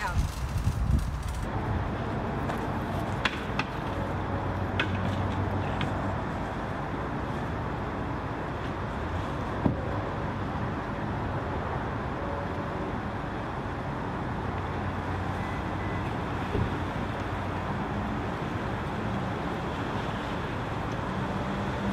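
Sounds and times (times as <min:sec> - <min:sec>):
cars driving past: 0:01.5 - 0:21.9.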